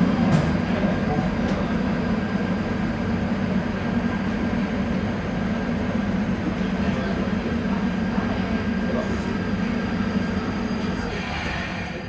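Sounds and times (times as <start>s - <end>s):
light-rail motor hum: 0.0s - 12.0s.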